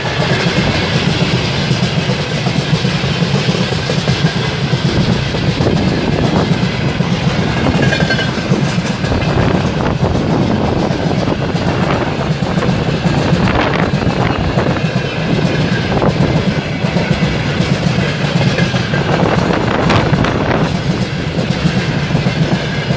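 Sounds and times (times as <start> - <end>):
train wheels clattering over rails: 0.0 - 22.9.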